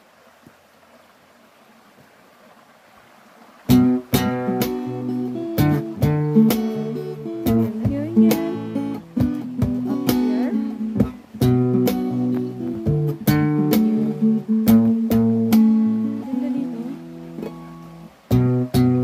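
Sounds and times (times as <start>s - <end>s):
acoustic guitar instrumental: 3.6s - 19.0s.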